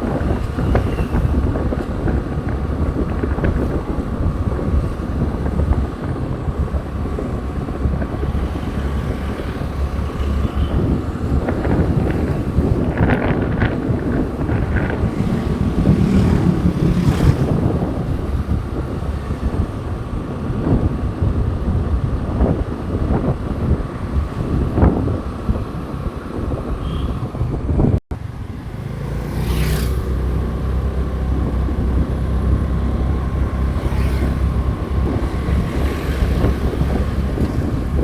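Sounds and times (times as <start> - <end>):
motorbike rumble: 0.0 - 38.0
wind rushing over microphone: 0.0 - 38.0.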